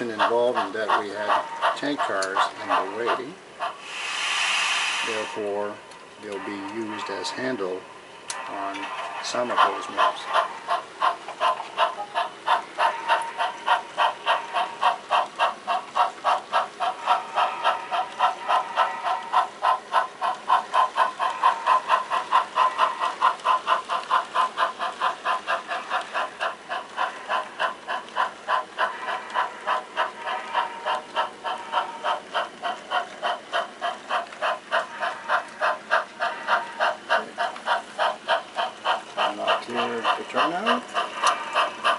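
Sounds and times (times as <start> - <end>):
steam locomotive chuffing: 0.0 - 41.9.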